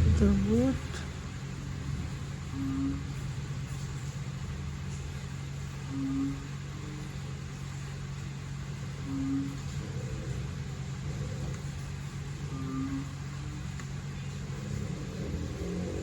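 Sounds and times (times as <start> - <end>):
low hum with rumble: 0.0 - 16.0.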